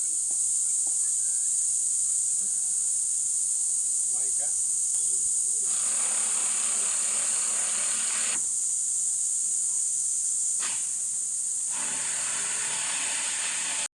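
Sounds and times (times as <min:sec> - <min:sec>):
cricket trilling: 0:00.0 - 0:13.9
low hiss: 0:00.0 - 0:13.9.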